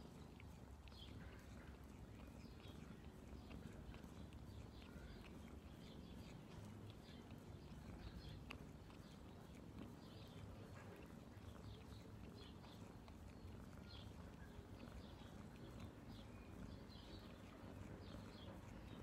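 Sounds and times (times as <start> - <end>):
cat licking its paw: 0.0 - 19.0.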